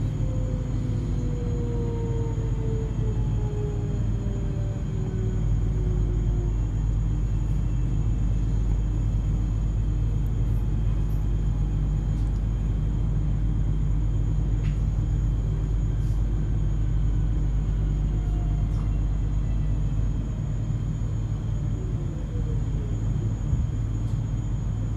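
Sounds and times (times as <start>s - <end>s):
train running gear rumble: 0.0s - 24.9s.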